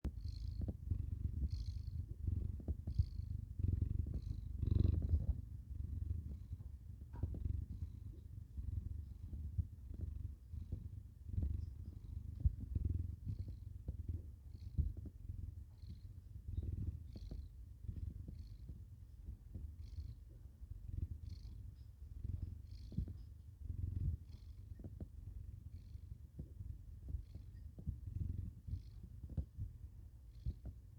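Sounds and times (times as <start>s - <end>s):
cat snoring: 0.1s - 18.8s, 19.5s - 25.0s, 27.0s - 29.6s
soft breath hiss: 0.1s - 30.9s.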